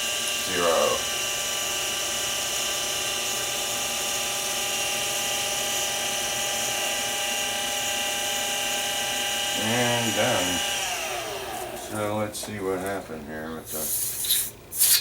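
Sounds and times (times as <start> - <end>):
milling machine running: 0.0 - 12.3.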